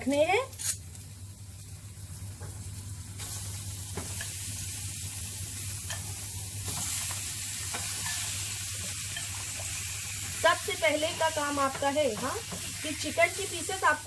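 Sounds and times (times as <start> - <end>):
chicken sizzling in oil: 0.6 - 14.0.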